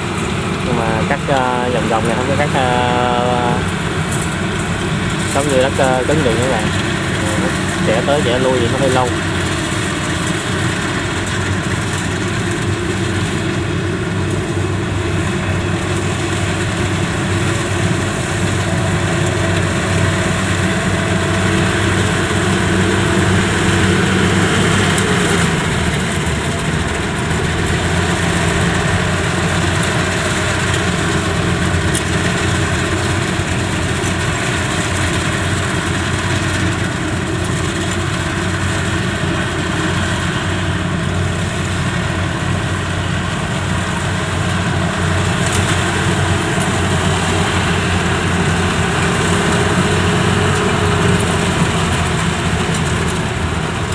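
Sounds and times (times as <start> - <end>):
combine harvester diesel engine: 0.0 - 53.9.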